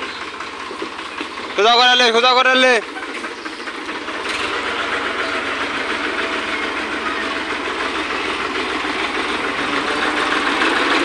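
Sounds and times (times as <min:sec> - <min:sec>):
tractor diesel engine chugging: 0:00.0 - 0:11.0.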